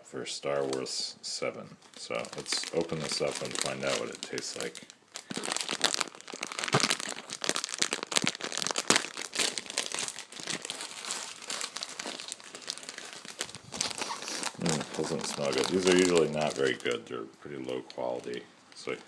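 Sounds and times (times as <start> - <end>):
plastic wrapper crinkling: 1.8 - 19.0.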